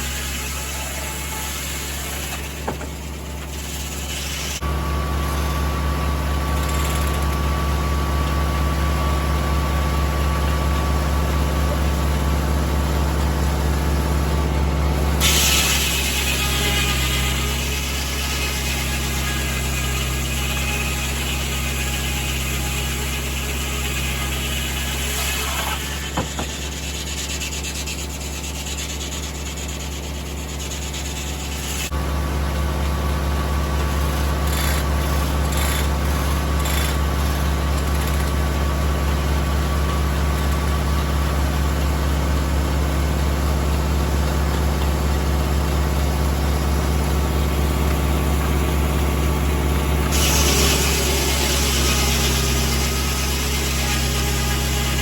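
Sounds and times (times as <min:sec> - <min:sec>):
circular saw blade cutting wood: 0:00.0 - 0:07.8, 0:11.4 - 0:32.0, 0:33.7 - 0:41.8, 0:43.7 - 0:55.0
tractor engine drone: 0:00.0 - 0:15.4, 0:25.2 - 0:55.0.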